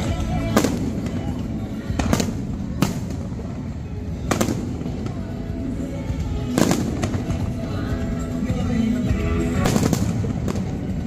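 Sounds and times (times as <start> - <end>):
fireworks bangs: 0.0 - 8.0, 9.1 - 11.0
music playing: 0.0 - 11.0.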